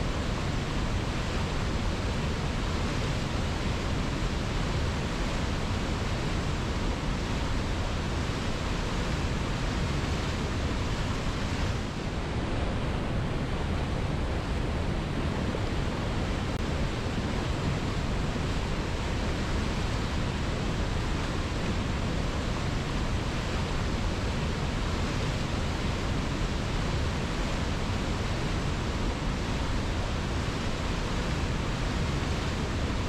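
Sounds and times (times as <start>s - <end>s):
waterfall roaring over rocks: 0.0s - 33.0s.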